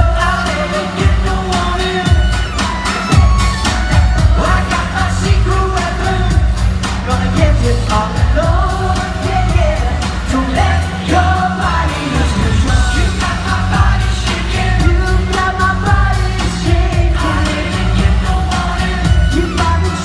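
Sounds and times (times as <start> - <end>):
heavy bass and steady beat: 0.0 - 20.0
man singing live pop music: 0.0 - 20.0.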